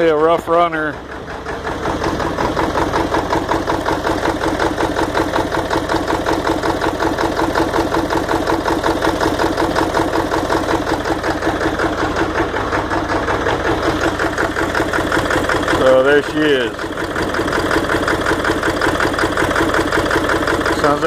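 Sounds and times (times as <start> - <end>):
diesel engine idling roughly: 0.0 - 21.0.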